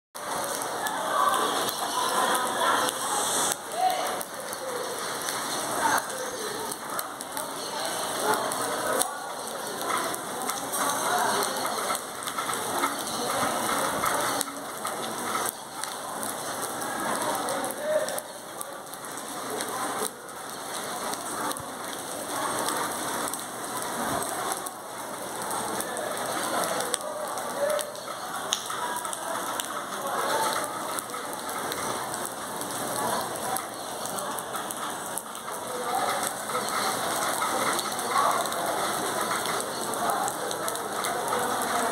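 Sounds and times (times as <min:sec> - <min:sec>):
rain on trees and roofing: 0:00.2 - 0:41.9.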